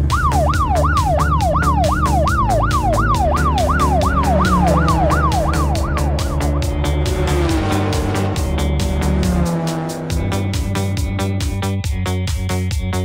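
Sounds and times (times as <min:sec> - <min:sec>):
fast wailing siren: 0:00.0 - 0:11.0
background music: 0:00.0 - 0:13.0.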